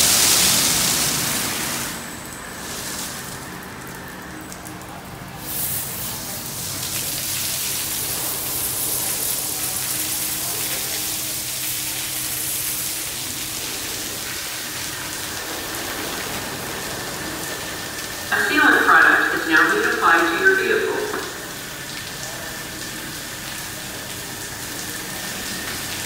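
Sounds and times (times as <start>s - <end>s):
car wash water spraying on car: 0.0s - 26.0s
low machine hum: 0.0s - 26.0s.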